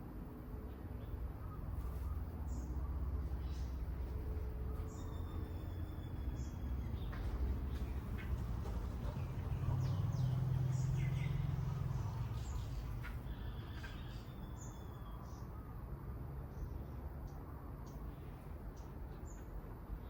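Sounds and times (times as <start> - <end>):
low steady hum: 0.0 - 20.0
small birds chirping: 0.6 - 15.8, 16.4 - 20.0.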